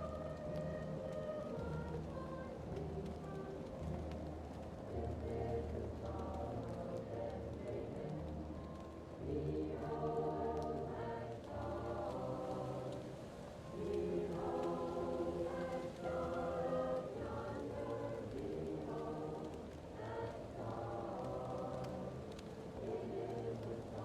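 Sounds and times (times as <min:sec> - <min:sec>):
fireplace crackling: 0:00.0 - 0:24.0
muffled choir singing: 0:00.0 - 0:24.0.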